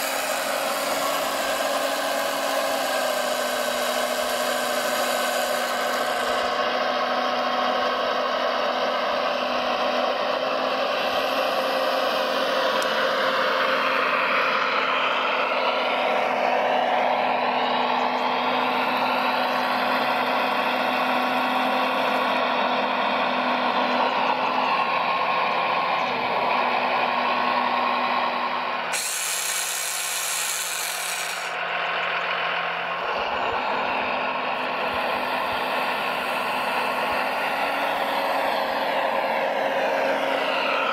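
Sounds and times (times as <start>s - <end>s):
electric motors and hydraulic pump whine: 0.0s - 40.9s.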